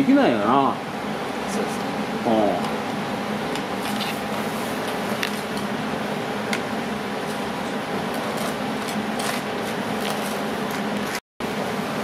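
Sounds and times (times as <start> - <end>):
mechanical fan humming: 0.0 - 12.0.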